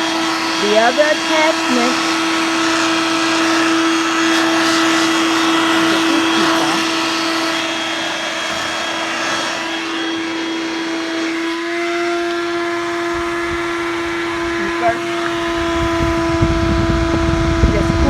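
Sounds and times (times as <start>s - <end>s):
vacuum cleaner motor whining: 0.0s - 18.0s.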